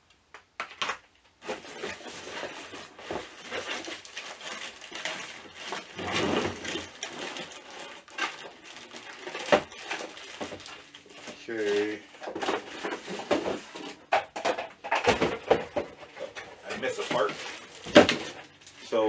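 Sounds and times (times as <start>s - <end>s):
plastic bag rustling: 1.4s - 19.0s.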